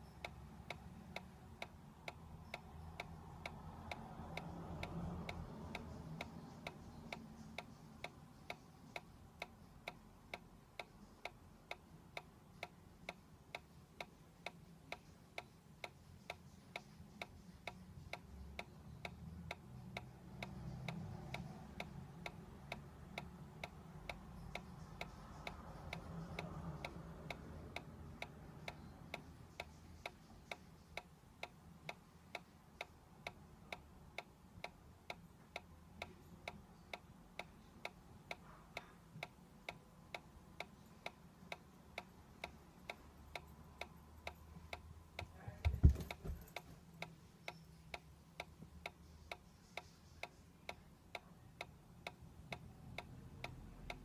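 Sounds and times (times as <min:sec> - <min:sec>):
dancing toy ticking: 0:00.0 - 0:54.0.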